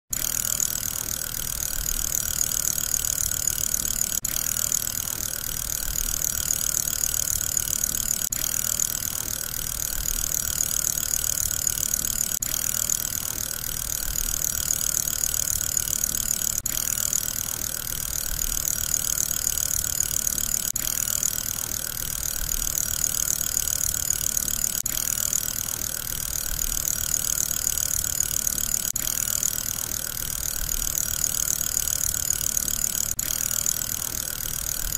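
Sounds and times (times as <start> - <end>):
fidget spinner whirring: 0.1 - 34.9.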